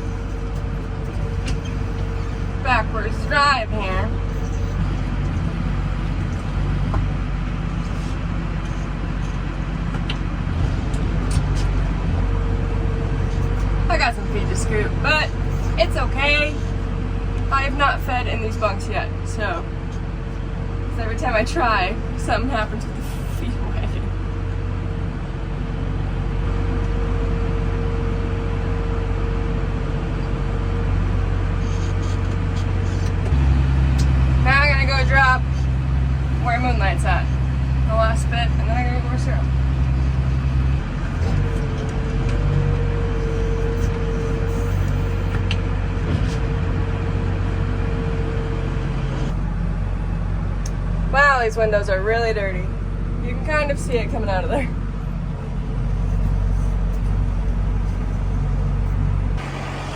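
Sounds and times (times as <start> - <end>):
farm vehicle engine droning: 0.0 - 59.9.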